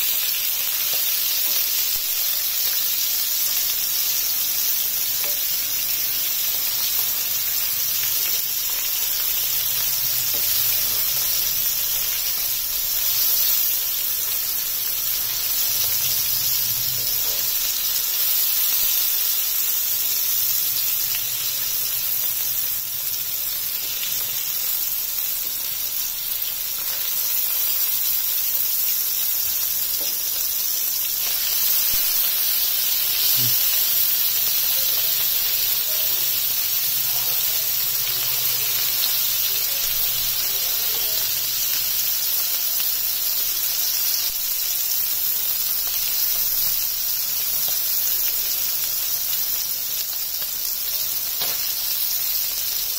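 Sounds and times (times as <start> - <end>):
fish sizzling in oil: 0.0 - 52.9.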